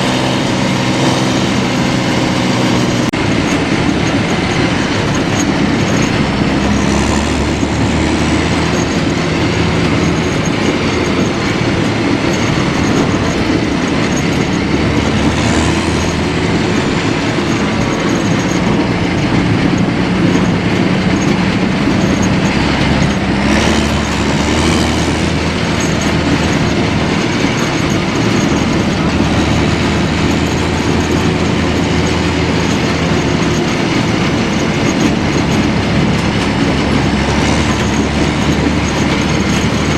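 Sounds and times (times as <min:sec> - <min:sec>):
diesel engines running hard: 0:00.0 - 0:39.9
steady metallic clatter: 0:00.0 - 0:39.9.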